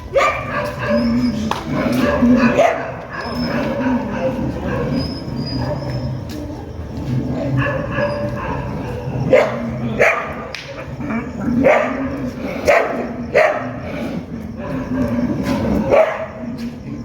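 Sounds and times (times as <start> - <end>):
dog barking: 0.0 - 6.1, 7.4 - 16.7.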